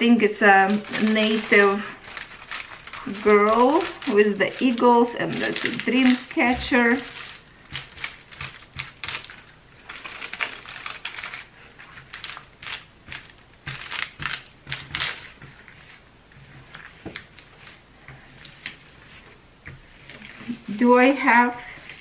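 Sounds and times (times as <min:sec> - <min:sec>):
plastic film crinkling: 0:00.0 - 0:16.0, 0:16.7 - 0:19.3.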